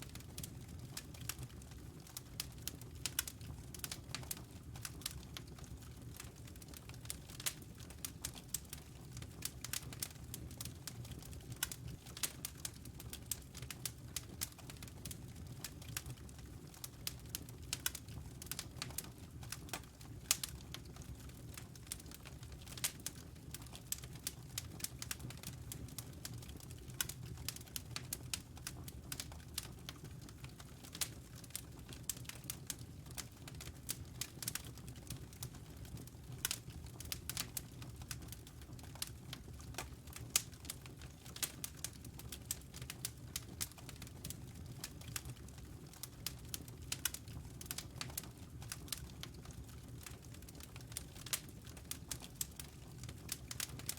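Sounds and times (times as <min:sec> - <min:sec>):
low rumble of flames: 0:00.0 - 0:53.9
wood fire crackling: 0:00.0 - 0:53.9.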